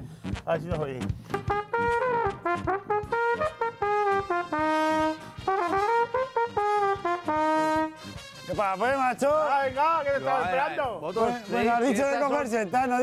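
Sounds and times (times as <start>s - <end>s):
trumpet playing lively tune: 0.3s - 13.0s.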